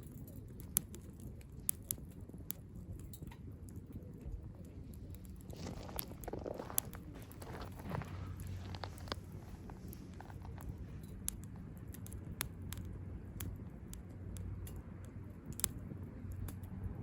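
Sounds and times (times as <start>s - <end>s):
wood fire crackling: 0.0s - 17.0s
sharp pops and snaps: 0.1s - 17.0s.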